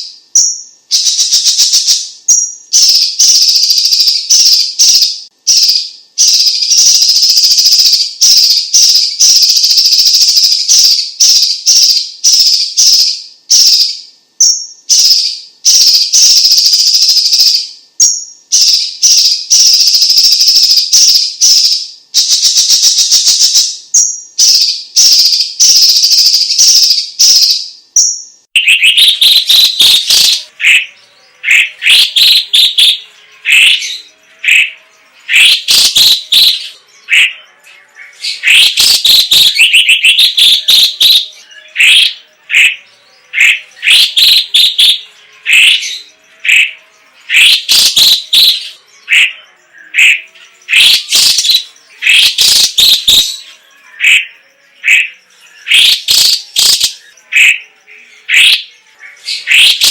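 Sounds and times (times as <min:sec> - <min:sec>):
bird singing rasping and whistling: 0:00.0 - 0:59.9.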